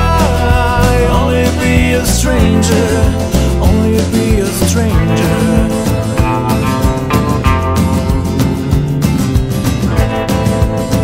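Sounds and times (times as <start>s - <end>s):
bass guitar: 0.0s - 11.0s
drums steady beat: 0.0s - 11.0s
electric guitar: 0.0s - 11.0s.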